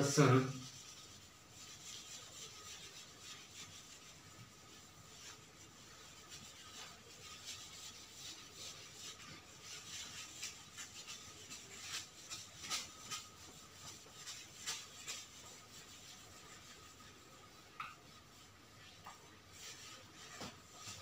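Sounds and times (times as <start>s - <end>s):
marker writing on whiteboard: 1.6s - 21.0s.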